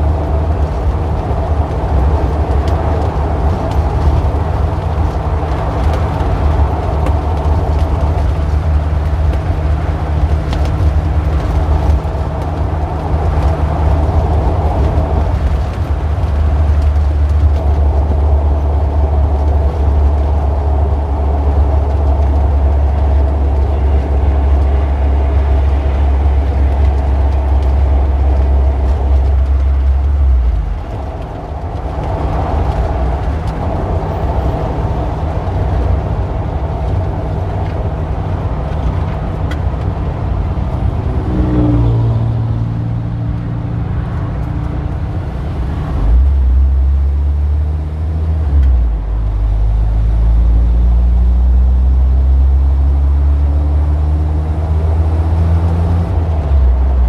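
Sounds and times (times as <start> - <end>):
engines revving as cars pull away: 0.0 - 57.0
heavy low engine drone: 0.0 - 57.0
traffic rumble: 0.0 - 57.0.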